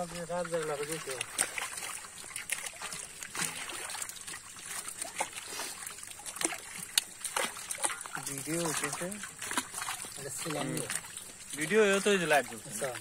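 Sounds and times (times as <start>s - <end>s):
fish flapping and splashing: 0.0s - 13.0s.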